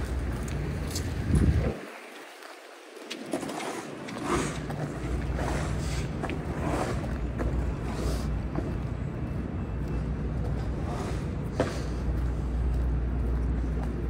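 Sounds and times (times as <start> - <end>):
footsteps on wet pavement: 0.0 - 14.0
wind rumbling on microphone: 0.0 - 14.0.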